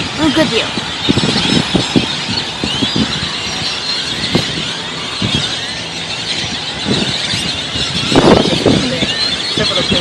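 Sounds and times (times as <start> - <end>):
flock of birds calling: 0.0 - 10.0
low traffic rumble: 0.0 - 10.0.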